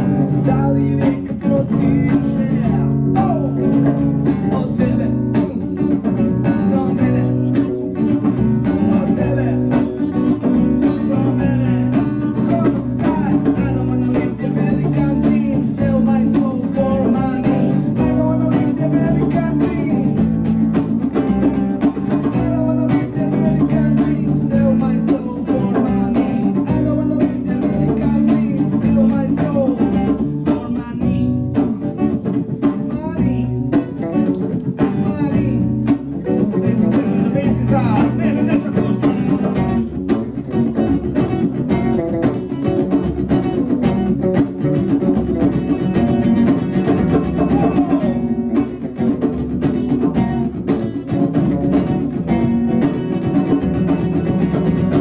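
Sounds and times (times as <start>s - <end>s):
person singing: 0.0s - 20.5s, 21.4s - 49.0s
drum kit beat: 0.0s - 55.0s
guitar: 0.0s - 55.0s.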